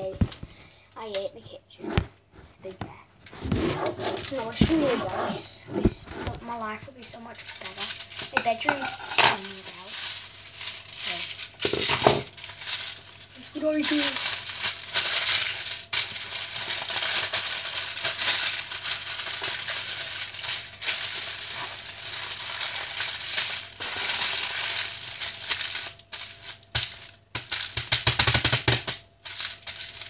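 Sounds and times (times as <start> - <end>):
plastic wrapping crinkling: 3.2 - 5.2, 5.8 - 30.0.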